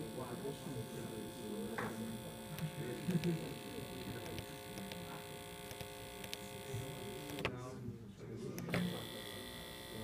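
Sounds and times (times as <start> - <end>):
small electric motor humming: 0.0 - 7.7, 8.6 - 10.0.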